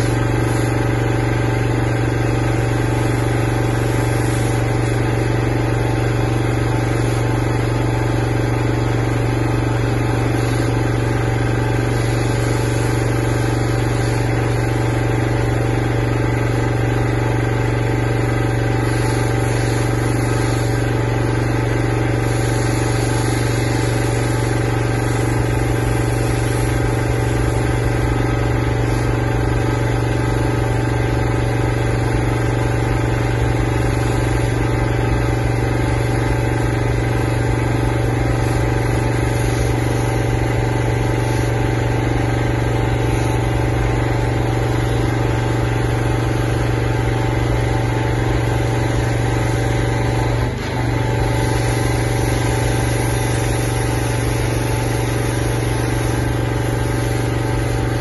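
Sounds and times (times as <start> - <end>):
water spray hissing: 0.0 - 8.9, 9.7 - 58.0
pressure washer engine running: 0.0 - 58.0.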